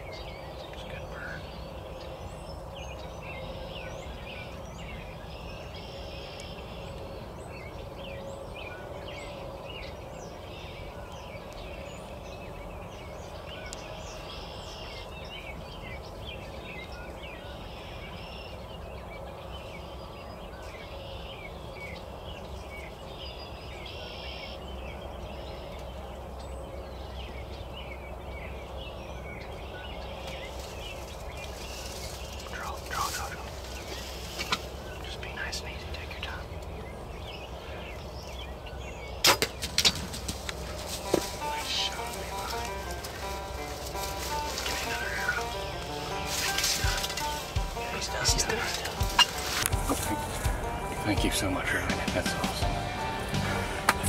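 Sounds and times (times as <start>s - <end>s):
low background rumble: 0.0s - 54.0s
songbirds chirping: 0.0s - 54.0s.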